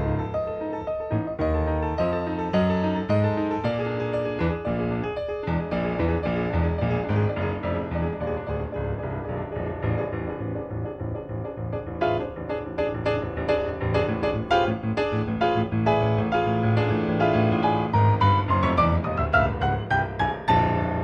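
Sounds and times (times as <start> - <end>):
quick solo piano: 0.0 - 21.0.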